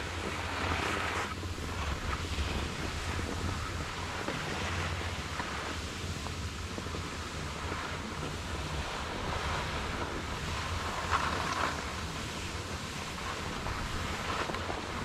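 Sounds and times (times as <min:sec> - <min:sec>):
skis sliding on snow: 0:00.0 - 0:15.0
wind buffeting microphone: 0:00.0 - 0:15.0.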